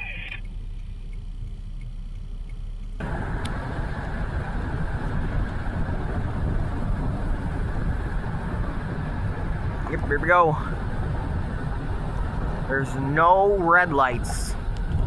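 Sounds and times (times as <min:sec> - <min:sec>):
car engine and road rumble: 0:00.0 - 0:15.0
wind and road noise rush: 0:00.0 - 0:15.0.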